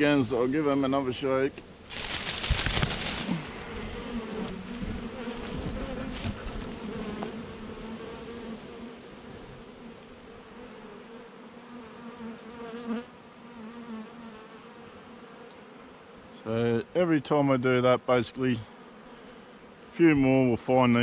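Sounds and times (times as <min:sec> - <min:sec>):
swarm of bees buzzing: 0:01.7 - 0:16.6, 0:18.4 - 0:21.0.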